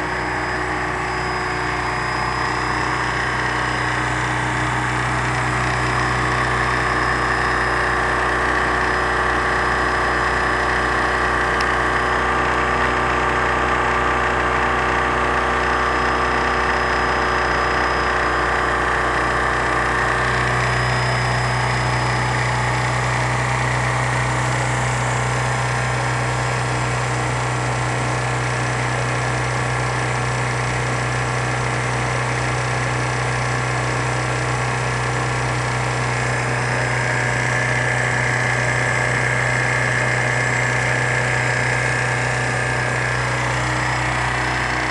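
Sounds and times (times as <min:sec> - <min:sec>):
generator engine hum: 0:00.0 - 0:44.9.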